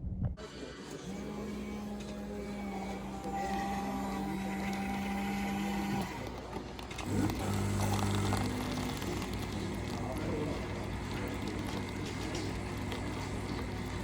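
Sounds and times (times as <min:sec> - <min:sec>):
motor hum: 0:00.8 - 0:14.0.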